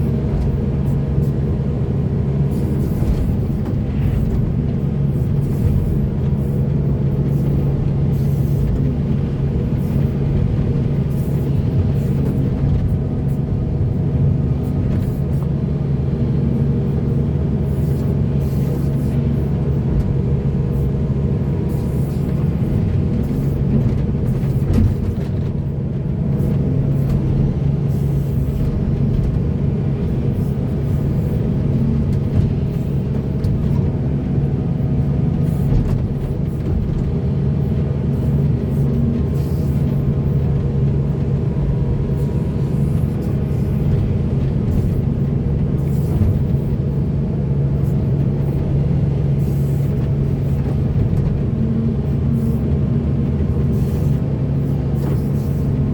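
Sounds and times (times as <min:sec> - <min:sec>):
large diesel engine running: 0:00.0 - 0:55.9.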